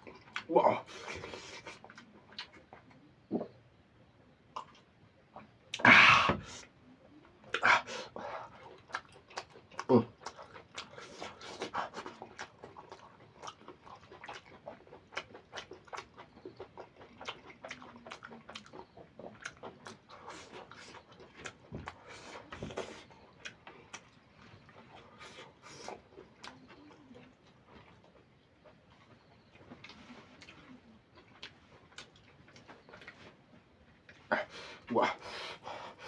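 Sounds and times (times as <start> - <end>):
wet chewing and lip-smacking: 0.0 - 3.6, 4.5 - 5.8, 7.1 - 34.3.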